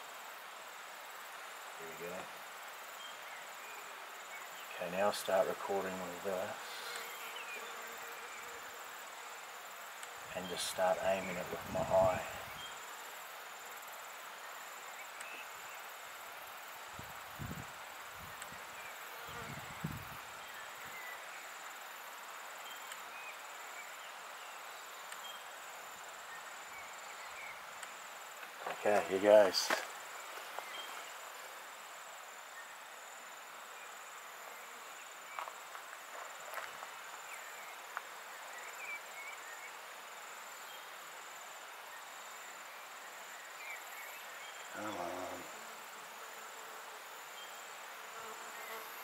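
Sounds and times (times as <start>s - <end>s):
insects trilling: 0.0s - 49.0s.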